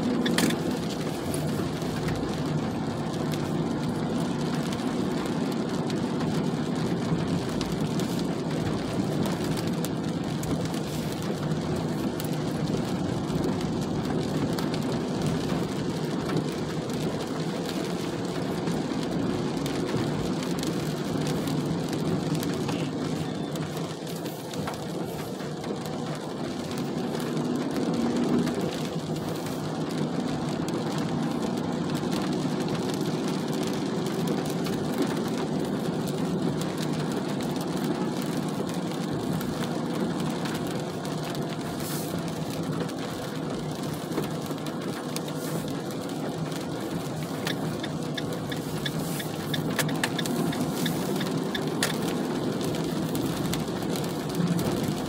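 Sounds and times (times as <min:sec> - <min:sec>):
car driving rumble: 0:00.0 - 0:55.0
rain on windshield: 0:00.0 - 0:55.0
windshield wipers running: 0:00.0 - 0:55.0.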